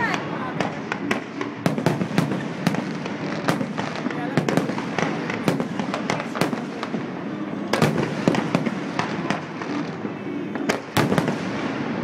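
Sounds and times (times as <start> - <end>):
din of smaller firework bursts: 0.0 - 12.0.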